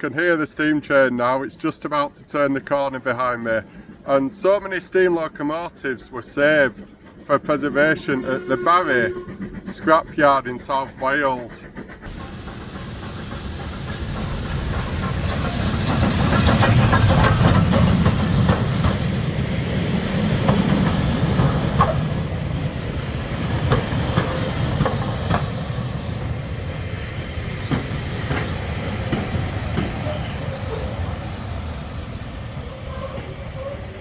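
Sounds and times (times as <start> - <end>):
steam train rumble: 0.0 - 34.0
train wheels clicking over rail joints: 6.3 - 34.0
steam hiss: 6.4 - 34.0.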